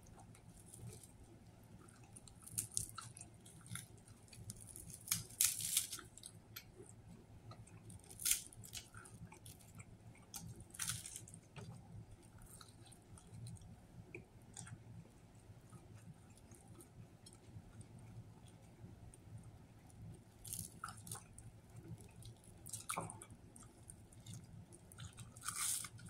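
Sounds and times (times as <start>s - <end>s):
person chewing sandwich: 0.0s - 26.0s.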